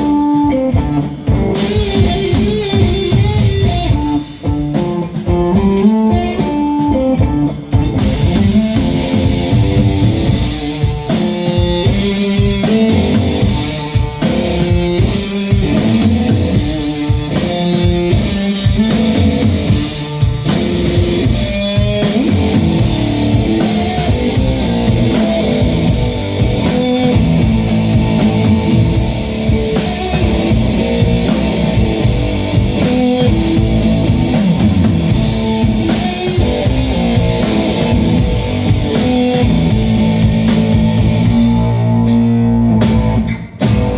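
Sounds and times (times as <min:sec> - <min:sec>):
bass guitar: 0:00.0 - 0:43.9
drum kit: 0:00.0 - 0:43.9
guitars: 0:00.0 - 0:43.9.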